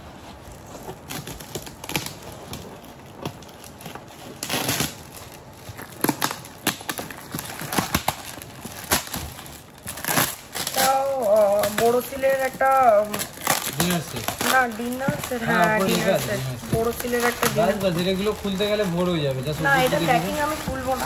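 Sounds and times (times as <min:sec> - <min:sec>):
gift wrapping crinkling: 0:00.0 - 0:21.0.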